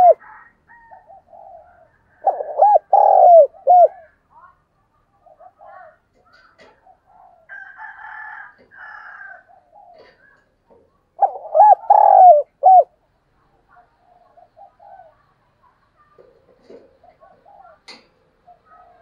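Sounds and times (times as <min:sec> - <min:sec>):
dove cooing: 0:00.0 - 0:04.2, 0:05.1 - 0:13.0, 0:13.6 - 0:19.0.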